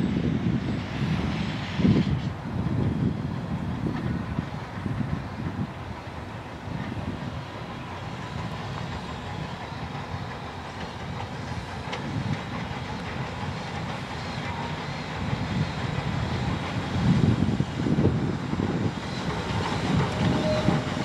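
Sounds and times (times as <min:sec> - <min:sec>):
steam train rolling on track: 0:00.0 - 0:21.0.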